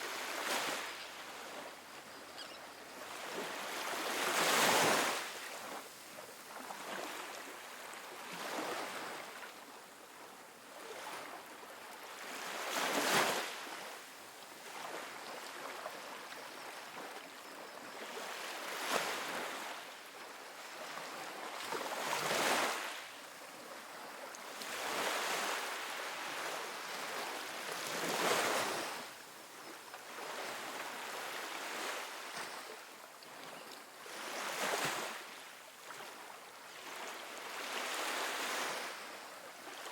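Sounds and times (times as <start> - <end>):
small waves breaking on sand: 0.0 - 39.9.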